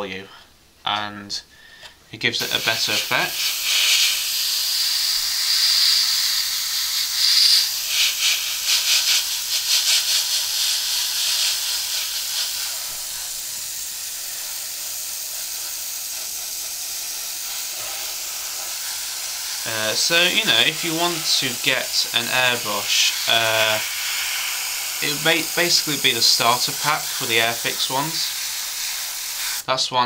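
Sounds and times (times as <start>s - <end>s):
airbrush hissing: 2.4s - 29.7s.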